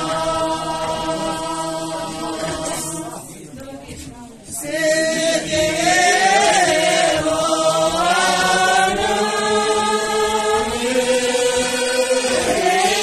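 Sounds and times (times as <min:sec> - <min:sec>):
group singing in unison: 0:00.0 - 0:03.7, 0:04.5 - 0:13.0.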